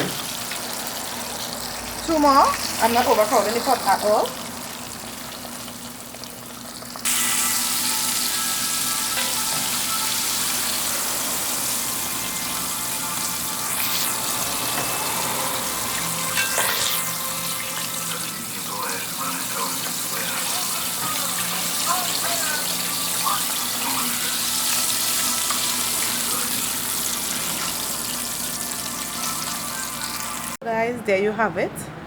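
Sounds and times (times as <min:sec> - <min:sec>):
chicken deep-frying in hot oil: 0:00.0 - 0:30.6.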